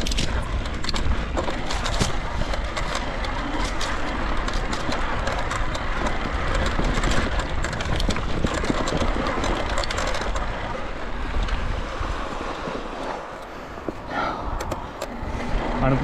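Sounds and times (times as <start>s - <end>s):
bike rattling clicks: 0.0s - 12.1s, 13.3s - 15.7s
bike tyre noise: 0.0s - 16.0s
wind rushing over microphone: 0.0s - 16.0s.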